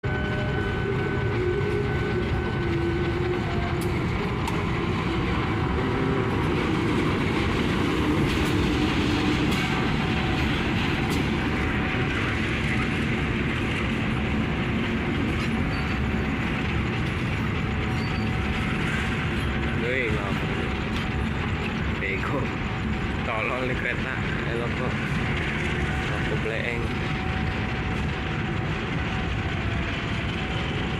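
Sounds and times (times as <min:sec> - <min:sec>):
train wheels clickety-clack: 0:00.1 - 0:30.9.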